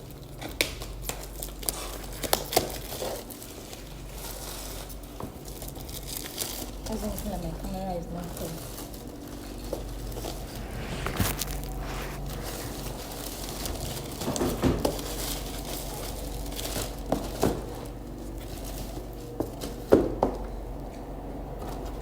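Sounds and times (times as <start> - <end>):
bag and packaging rustling: 0.8 - 19.9.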